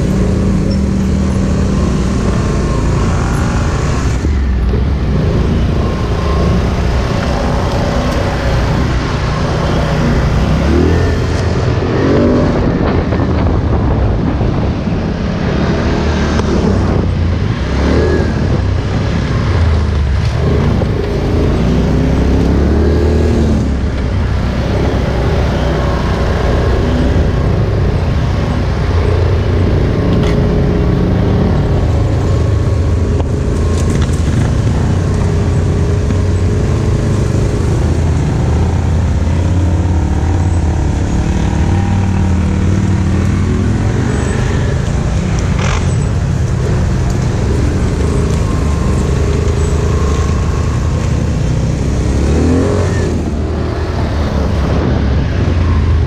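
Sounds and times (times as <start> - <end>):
atv engine revving: 0.0 - 13.5, 15.4 - 56.0.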